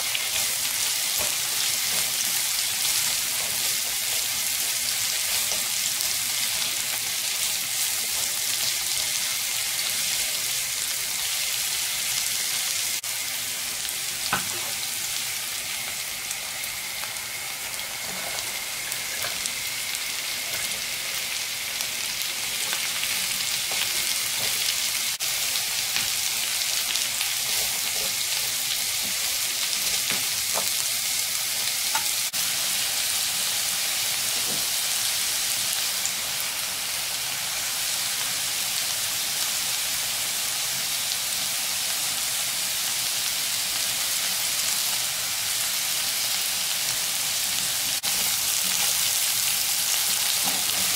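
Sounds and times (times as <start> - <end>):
vegetables sizzling in oil: 0.0 - 50.9.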